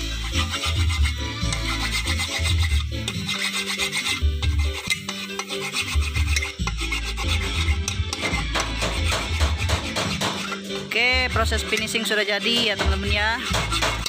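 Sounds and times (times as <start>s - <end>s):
background music with bass line: 0.0s - 14.0s
hand file rasping on metal: 0.0s - 14.0s.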